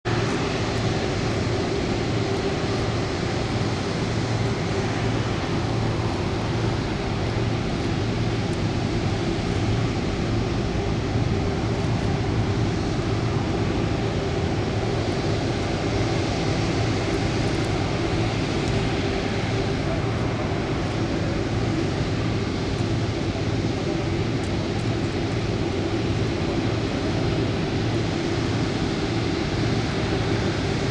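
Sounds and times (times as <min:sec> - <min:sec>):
jet engines taxiing: 0:00.1 - 0:30.9.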